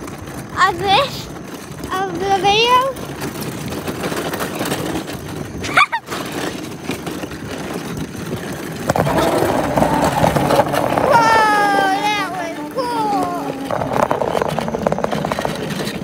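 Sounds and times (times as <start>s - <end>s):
tyre noise on pavement: 0.0s - 16.0s
wind buffeting microphone: 0.0s - 16.0s.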